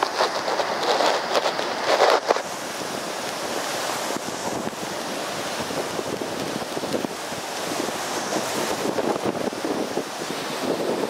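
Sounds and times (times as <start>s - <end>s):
storm surf waves breaking: 0.0s - 11.0s.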